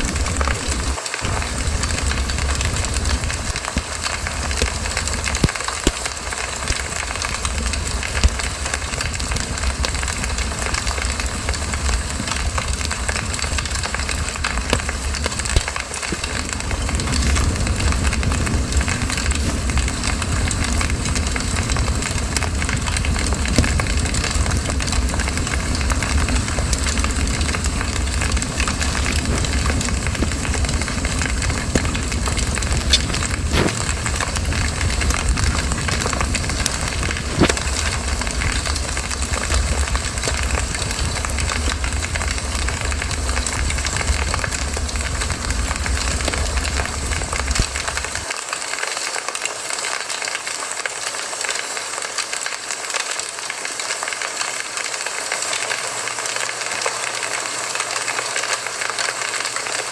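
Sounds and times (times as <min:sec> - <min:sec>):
low rumble of flames: 0:00.0 - 0:48.4
wood crackling and popping: 0:00.0 - 0:48.8.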